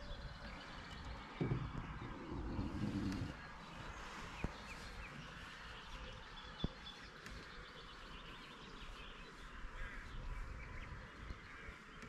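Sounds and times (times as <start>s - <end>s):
distant bird chirps: 0.0s - 12.0s
wind rumble on microphone: 0.0s - 12.0s.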